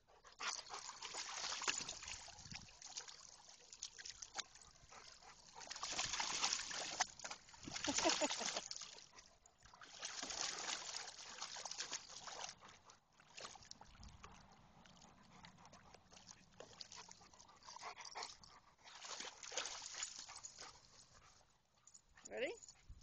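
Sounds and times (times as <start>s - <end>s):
water sloshing: 0.2s - 21.5s.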